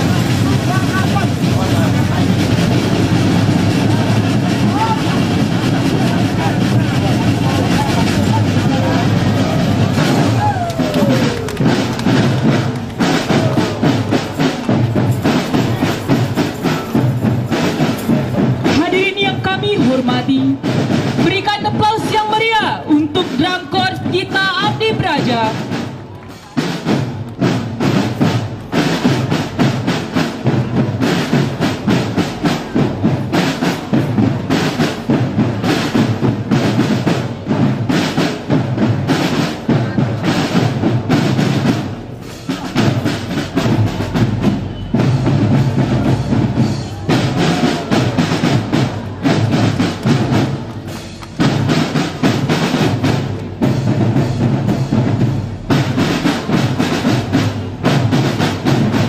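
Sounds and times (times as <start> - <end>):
bass drums: 0.0 - 26.0, 26.6 - 59.0
snare drums: 0.0 - 59.0.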